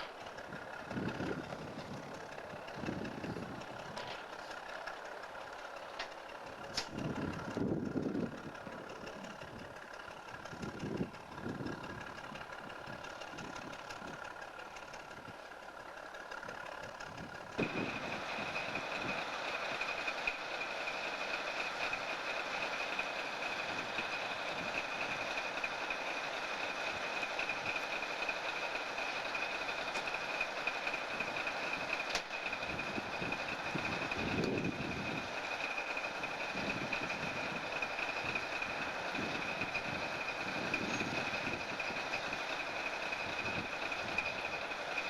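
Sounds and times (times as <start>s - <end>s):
diesel locomotive running: 0.0s - 45.0s.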